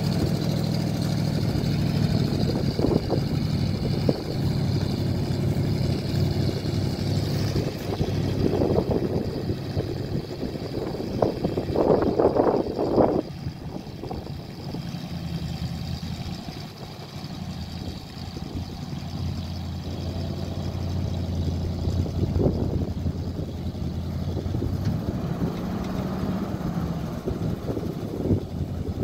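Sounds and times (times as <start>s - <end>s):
engine running under load: 0.0s - 29.0s.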